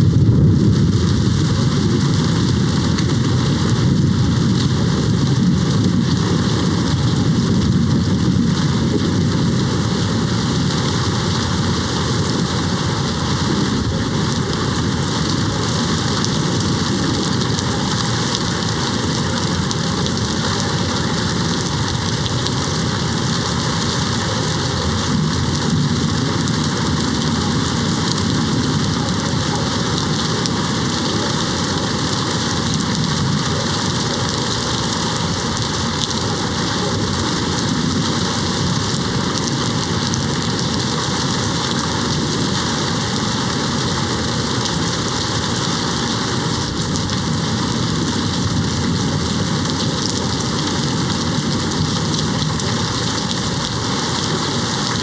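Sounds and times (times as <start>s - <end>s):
distant thunder rumble: 0.0s - 55.0s
rain hitting a window: 0.0s - 55.0s.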